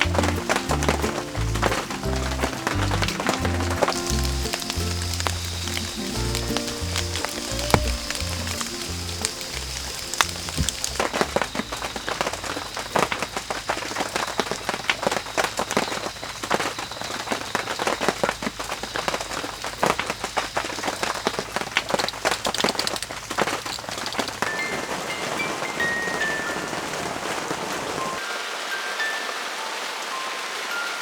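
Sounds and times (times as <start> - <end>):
rain falling hard: 0.0 - 31.0.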